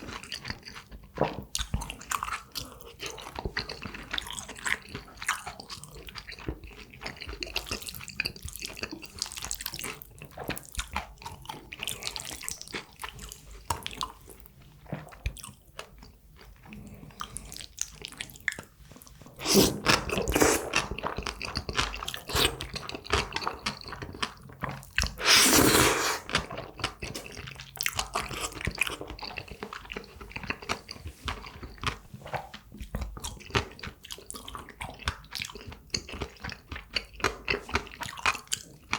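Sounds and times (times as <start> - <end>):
wet chewing sounds: 0.1 - 38.9.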